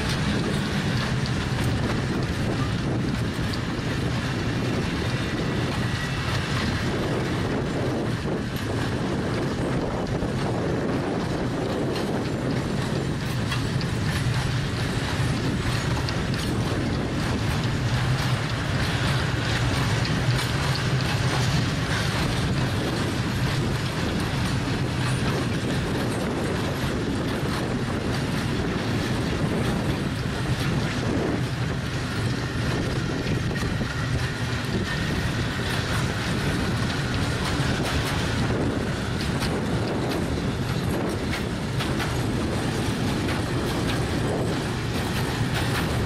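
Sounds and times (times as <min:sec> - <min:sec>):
freight train wheels rumbling: 0:00.0 - 0:46.0.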